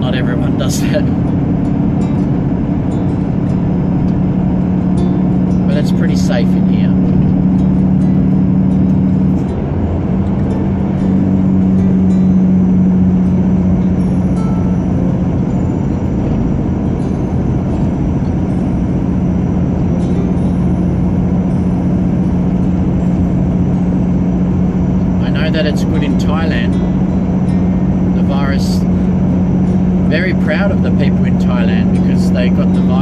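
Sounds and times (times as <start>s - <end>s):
truck engine humming: 0.0s - 33.0s
tyre and road noise: 0.0s - 33.0s.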